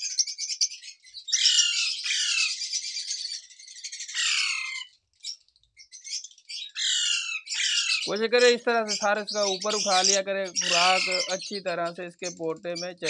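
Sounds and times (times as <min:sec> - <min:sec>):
parakeet chicks begging calls: 0:00.0 - 0:13.0.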